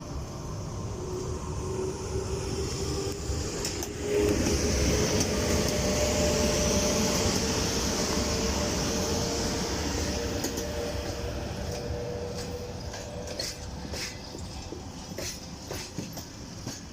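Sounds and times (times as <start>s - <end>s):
train rolling rumble: 0.0s - 16.9s.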